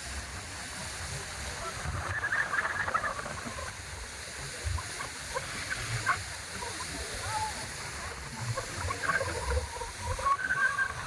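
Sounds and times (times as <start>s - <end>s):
water hiss at boat bow: 0.0s - 11.0s.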